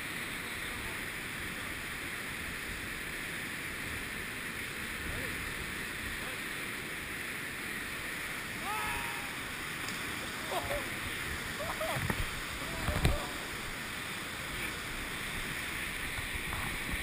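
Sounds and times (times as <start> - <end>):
roar of rushing whitewater: 0.0 - 17.0.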